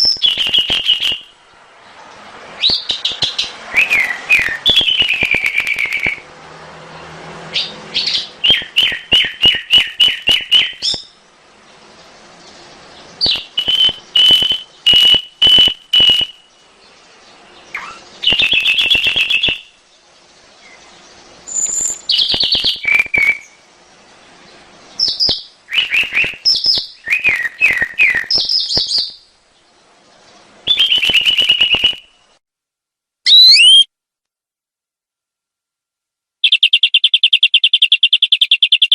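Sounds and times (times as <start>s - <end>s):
canary singing trills: 0.0s - 1.4s, 2.6s - 6.3s, 7.5s - 32.3s, 33.3s - 33.9s, 36.4s - 38.9s.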